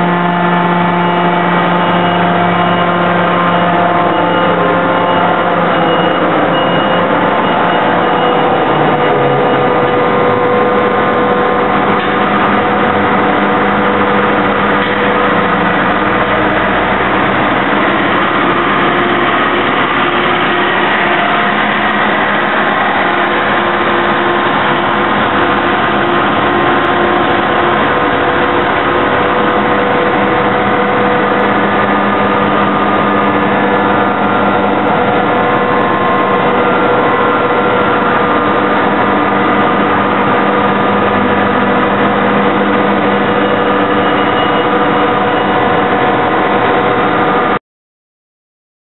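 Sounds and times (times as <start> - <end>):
loud machinery drone: 0.0 - 47.6.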